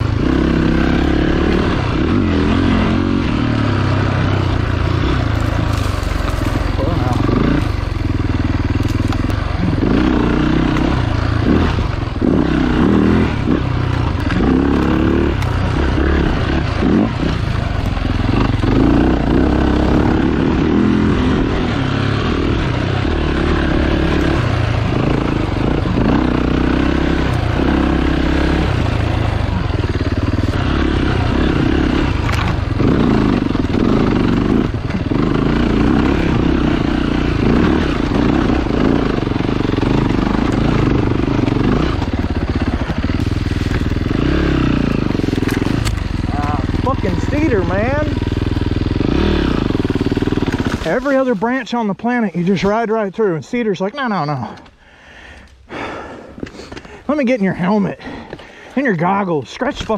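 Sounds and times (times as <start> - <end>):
off-road motorcycle engine: 0.0 - 59.9.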